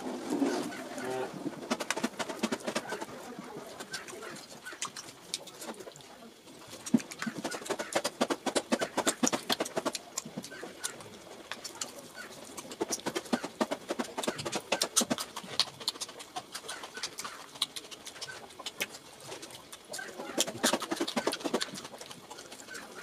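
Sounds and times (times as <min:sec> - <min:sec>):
fingers squelching in food: 0:00.3 - 0:23.0
mouth smacks and chewing: 0:00.4 - 0:23.0.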